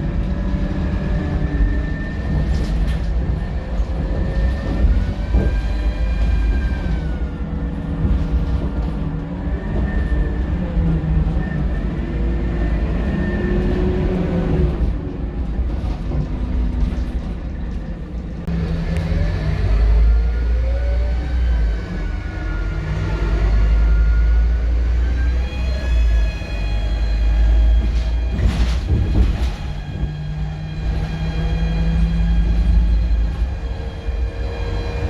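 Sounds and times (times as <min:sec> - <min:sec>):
bus engine rumble: 0:00.0 - 0:35.0.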